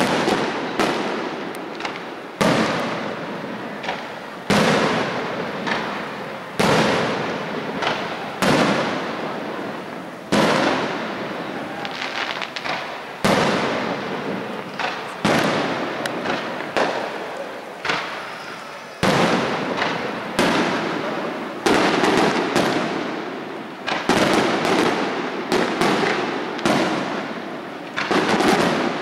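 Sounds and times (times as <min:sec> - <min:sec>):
firework bangs: 0:00.0 - 0:29.0
light firework cracks: 0:00.0 - 0:29.0.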